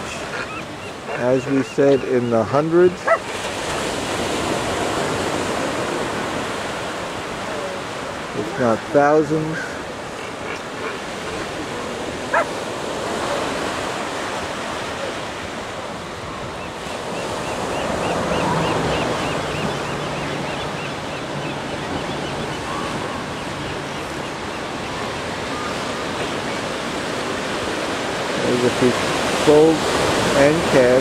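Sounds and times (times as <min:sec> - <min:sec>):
surf washing onto beach: 0:02.5 - 0:21.7, 0:22.4 - 0:31.0.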